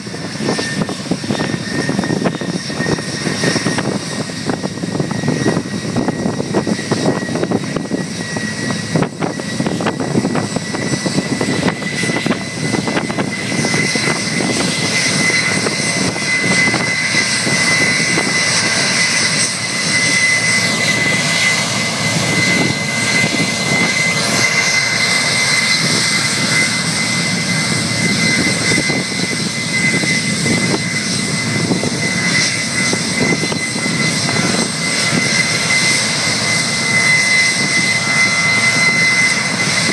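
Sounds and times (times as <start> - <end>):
jet engines running with whine: 0.0 - 39.9.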